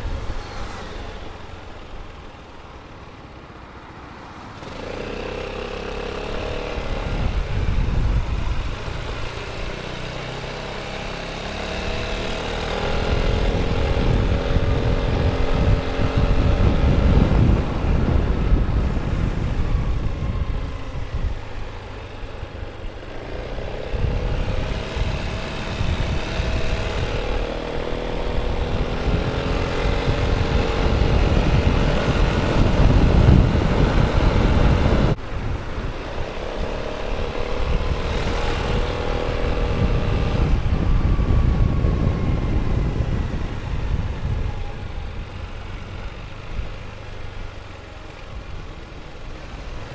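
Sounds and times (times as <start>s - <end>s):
wind rumble on microphone: 0.0s - 2.9s, 4.6s - 49.9s
scooter engine accelerating: 0.0s - 49.9s.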